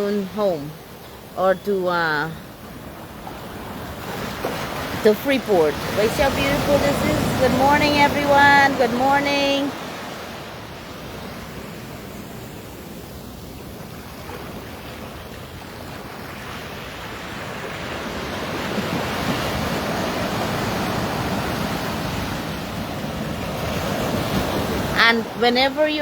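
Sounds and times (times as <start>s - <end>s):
sea waves washing onto beach: 2.1s - 26.0s.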